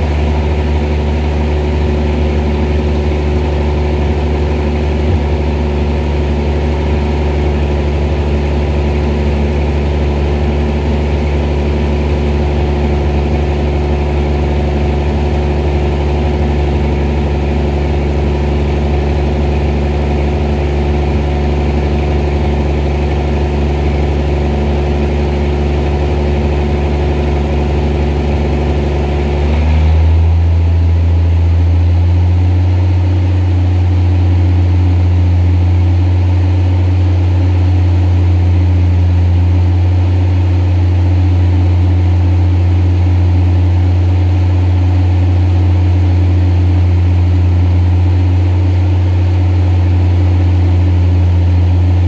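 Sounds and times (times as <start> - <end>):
gas engine running: 0.0 - 52.0.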